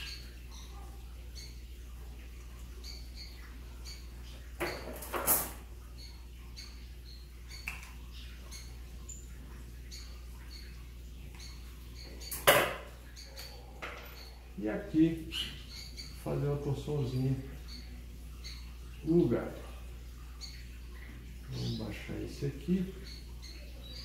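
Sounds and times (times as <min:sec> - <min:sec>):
faint high chirps: 0:00.0 - 0:05.0, 0:05.9 - 0:24.0.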